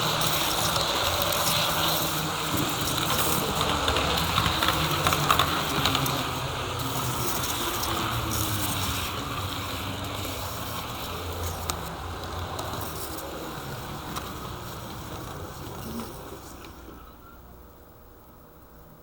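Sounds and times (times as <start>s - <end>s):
model train rumbling on track: 0.0s - 18.4s.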